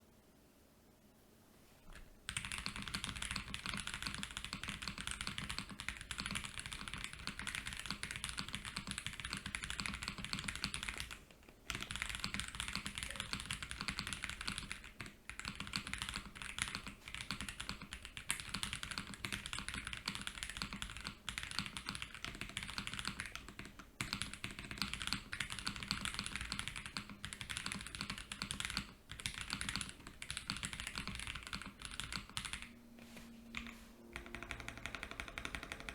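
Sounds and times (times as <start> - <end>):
fast typing on mechanical keyboard: 2.3 - 32.7, 34.2 - 35.9.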